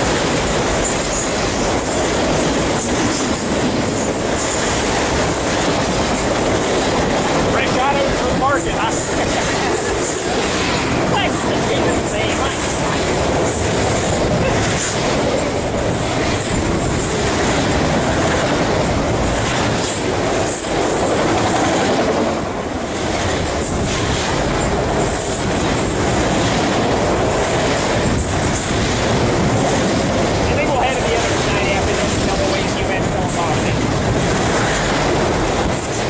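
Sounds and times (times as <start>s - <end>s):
freight train wheels rumbling: 0.0s - 36.0s
train wheel clacks: 0.0s - 36.0s.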